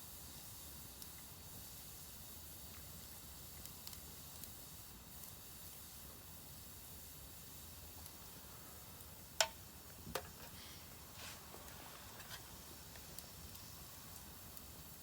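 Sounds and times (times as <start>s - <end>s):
fire popping: 0.0s - 15.0s
firewood crackling: 0.0s - 15.0s.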